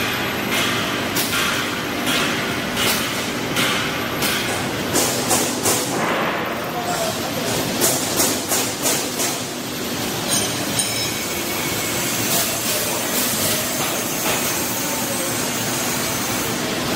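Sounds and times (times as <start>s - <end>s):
steady machinery noise: 0.0s - 16.9s.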